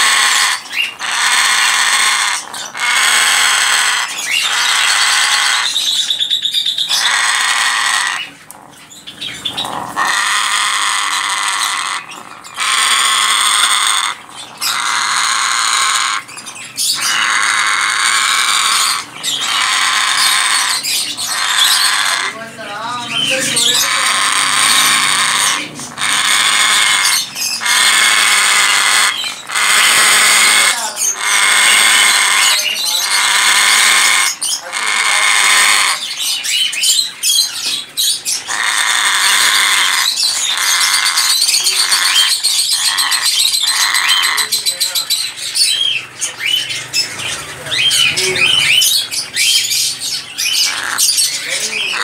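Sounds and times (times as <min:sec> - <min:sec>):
parrot screeching: 0:00.0 - 0:52.0.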